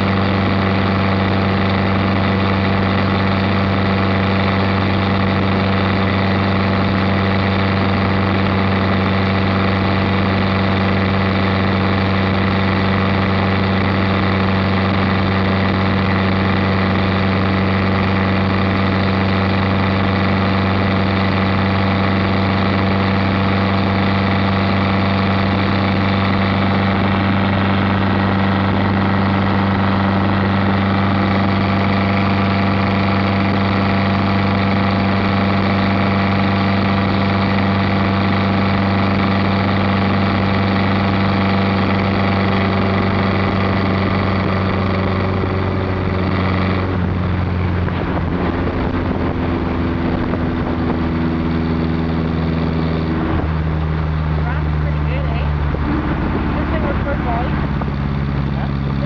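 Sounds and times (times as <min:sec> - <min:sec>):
car engine droning at cruise: 0:00.0 - 0:59.0
road noise: 0:00.0 - 0:59.0
wind noise: 0:00.0 - 0:59.0.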